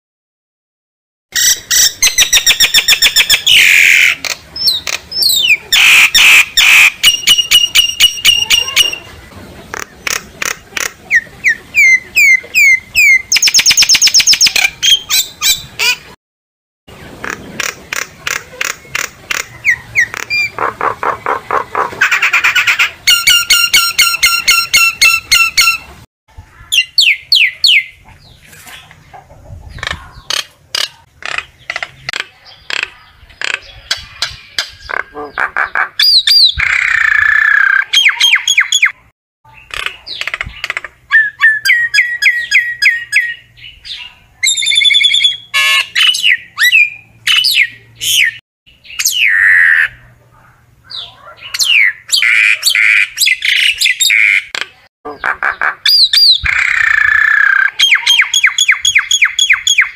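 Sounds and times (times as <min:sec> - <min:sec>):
myna singing and calling: 0:01.4 - 0:16.0, 0:17.2 - 0:25.9, 0:26.6 - 0:59.9.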